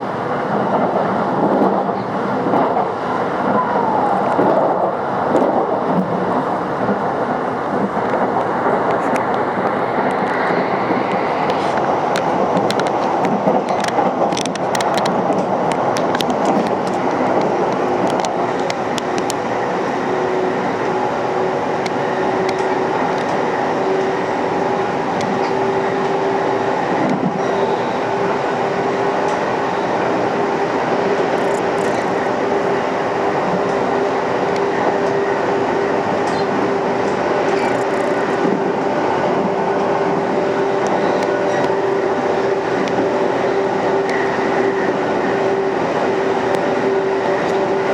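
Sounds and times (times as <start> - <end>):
train rolling on rails: 0.0 - 47.9.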